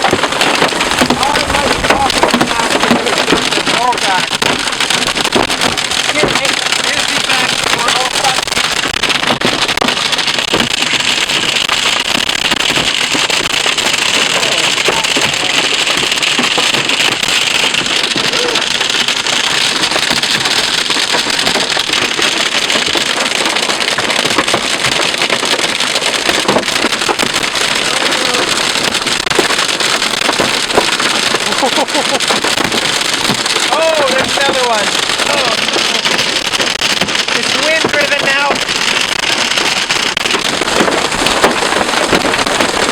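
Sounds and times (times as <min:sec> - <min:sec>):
hail pelting a vehicle: 0:00.0 - 0:42.9.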